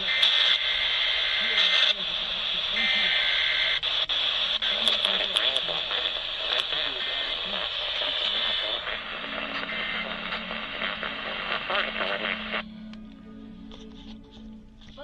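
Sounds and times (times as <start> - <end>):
radio static hiss and crackles: 0.0 - 13.0
faint radio broadcast: 0.0 - 15.0
low steady hum: 0.0 - 15.0.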